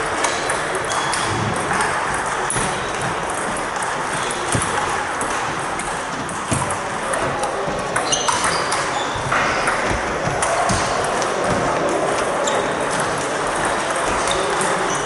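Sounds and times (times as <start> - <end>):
murmur of busy hall: 0.0 - 15.0
table tennis balls clicking: 0.0 - 15.0.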